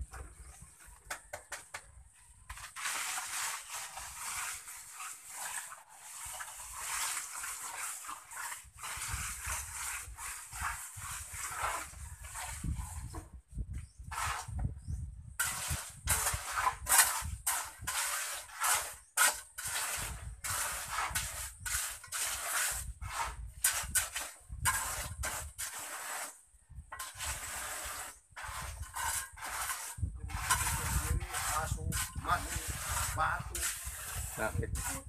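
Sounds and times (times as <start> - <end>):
trowel scraping cement: 0.1 - 35.0.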